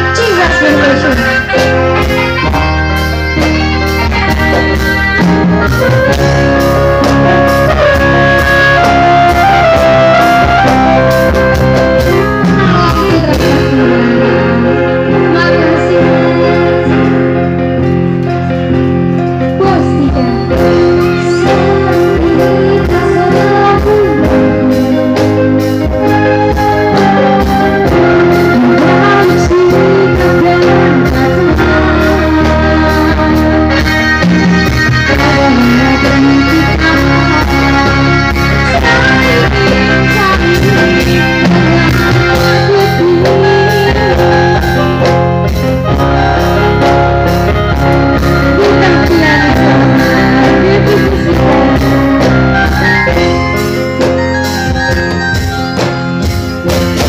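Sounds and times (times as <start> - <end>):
electronic keyboards playing: 0.0 - 57.0.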